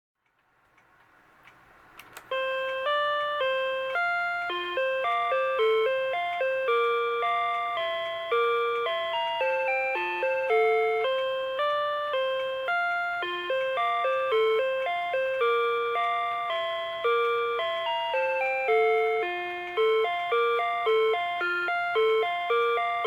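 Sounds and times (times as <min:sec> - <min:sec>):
alarm clock beeping melody: 0:02.3 - 0:23.0.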